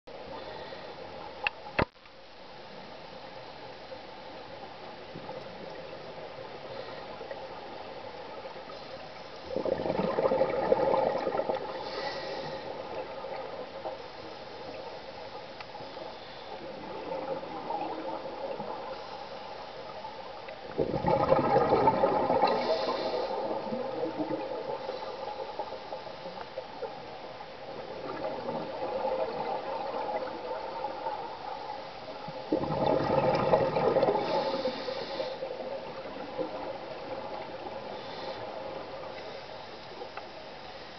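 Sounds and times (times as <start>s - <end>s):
soft steady rushing: 0.1s - 40.9s
underwater bubbles gurgling: 3.9s - 40.9s.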